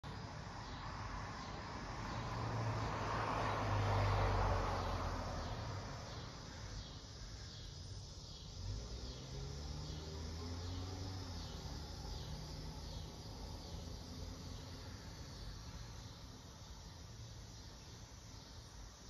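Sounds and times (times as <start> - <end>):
cicadas buzzing: 0.0 - 19.0
low traffic rumble: 0.0 - 19.0
vehicle passing: 0.2 - 7.5, 8.5 - 17.2.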